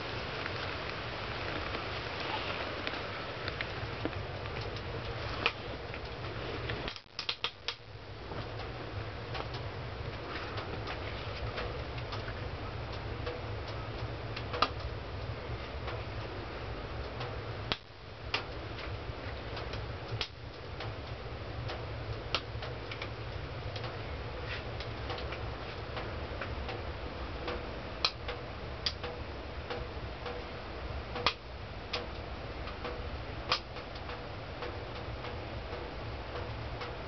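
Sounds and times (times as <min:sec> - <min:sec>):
low steady hum: 0:00.0 - 0:37.0
sharp clicks and crackles: 0:00.4 - 0:16.4, 0:17.0 - 0:24.0, 0:24.6 - 0:26.8, 0:27.4 - 0:30.5, 0:31.1 - 0:37.0.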